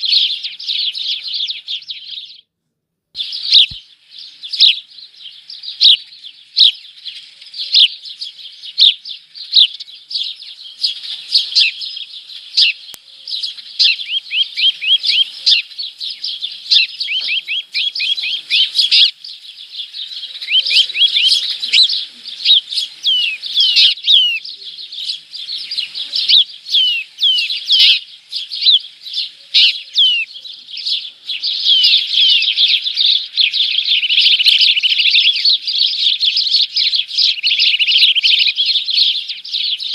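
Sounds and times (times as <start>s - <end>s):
small birds chirping: 0.0s - 2.6s, 3.2s - 39.9s.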